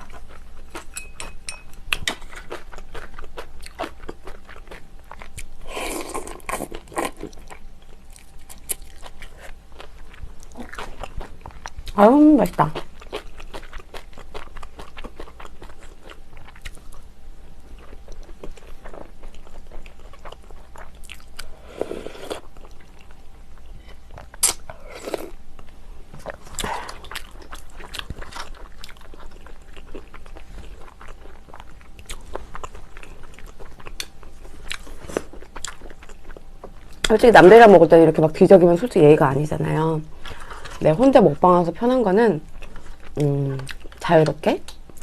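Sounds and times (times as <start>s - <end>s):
person chewing food: 0.0s - 12.0s, 12.7s - 37.1s, 42.5s - 44.0s.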